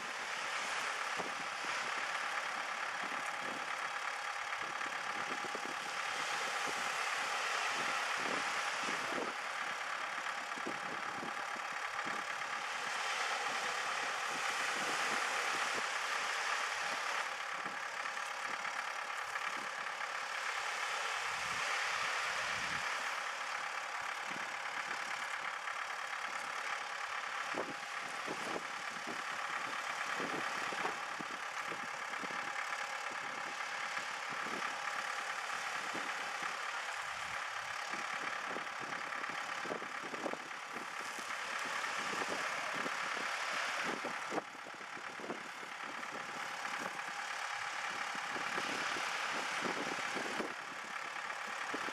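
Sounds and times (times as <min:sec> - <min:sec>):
tractor engine idling: 0:00.0 - 0:51.9.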